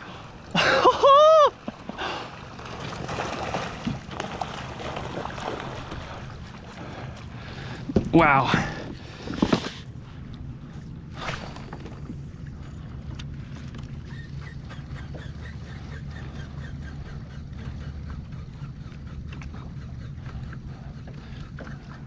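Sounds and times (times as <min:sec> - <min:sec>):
water lapping against kayak hull: 0:00.0 - 0:22.0.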